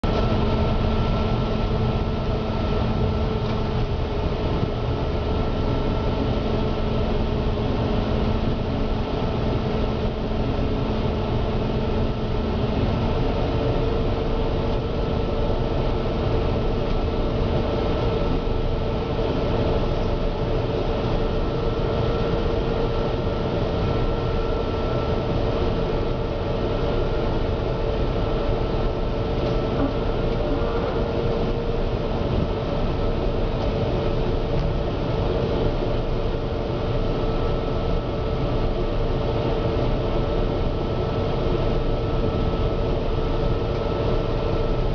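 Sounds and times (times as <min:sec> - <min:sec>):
combine harvester machinery drone: 0:00.0 - 0:44.9.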